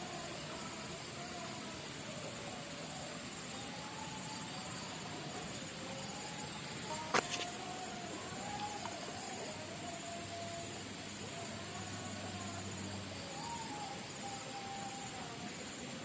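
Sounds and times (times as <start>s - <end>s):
background hiss: 0.0s - 16.0s
insects chirring: 0.0s - 16.0s.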